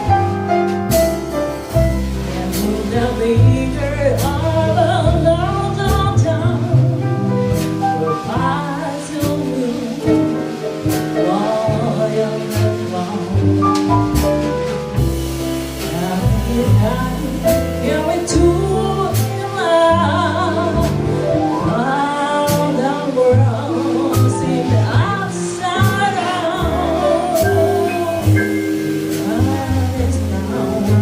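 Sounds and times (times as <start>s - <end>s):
bass line: 0.0s - 31.0s
jazz band playing: 0.0s - 31.0s.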